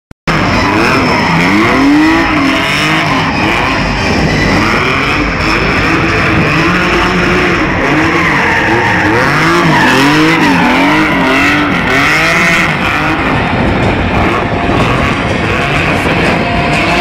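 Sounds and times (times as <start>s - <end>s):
car engine revving: 0.3s - 17.0s.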